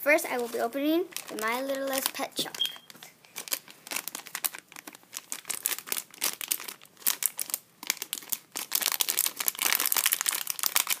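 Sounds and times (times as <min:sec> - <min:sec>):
plastic packet crinkling: 0:00.3 - 0:11.0.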